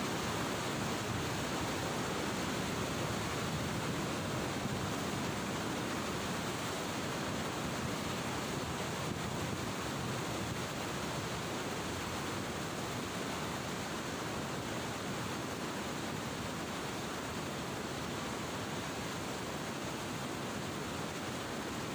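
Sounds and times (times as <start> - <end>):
river roaring at a weir: 0.0 - 21.9.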